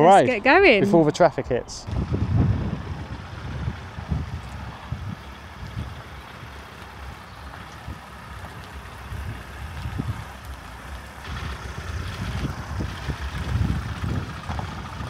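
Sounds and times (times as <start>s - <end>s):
engine and tyre noise: 0.0s - 15.0s
wind buffeting microphone: 1.5s - 15.0s
tyres crunching on gravel: 1.9s - 15.0s.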